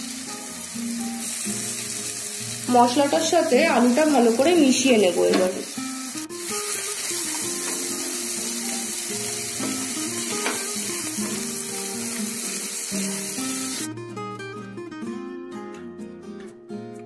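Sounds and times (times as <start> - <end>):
food sizzling in oil: 0.0 - 13.9
background music: 0.0 - 17.0.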